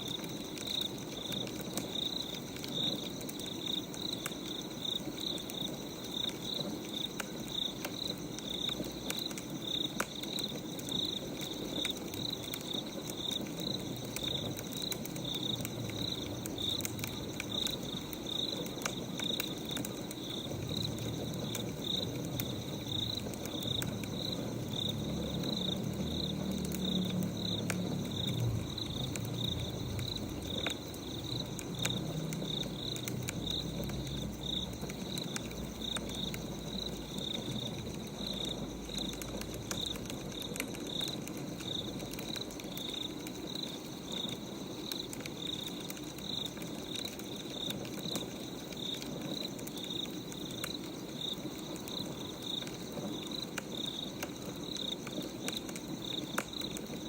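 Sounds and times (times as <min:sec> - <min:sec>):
crickets chirping: 0:00.0 - 0:57.0
small crackles: 0:00.0 - 0:57.0.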